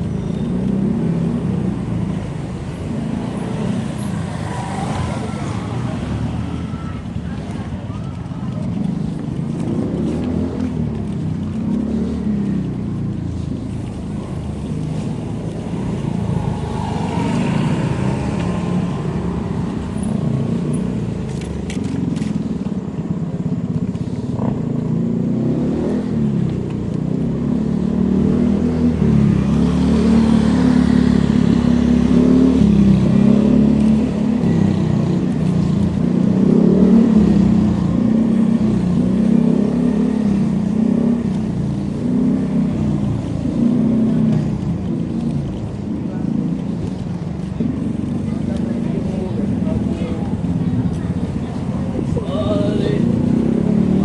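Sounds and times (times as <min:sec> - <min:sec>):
vehicle riding rumble: 0:00.0 - 0:54.0.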